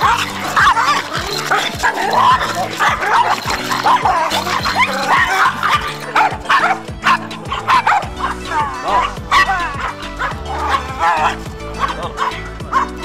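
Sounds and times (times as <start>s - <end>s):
background music with beat: 0.0s - 13.0s
small dog barking and yipping: 0.0s - 13.0s.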